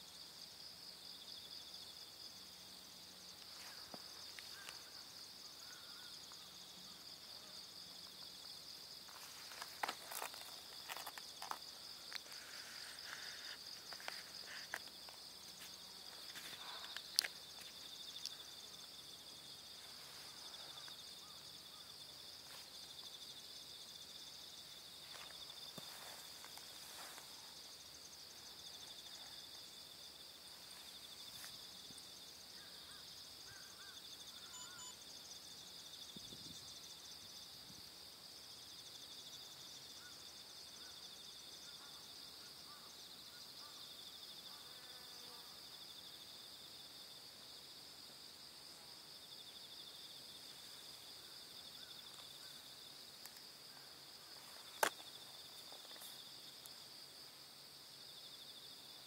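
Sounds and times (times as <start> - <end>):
insect chorus buzzing: 0.0 - 59.0.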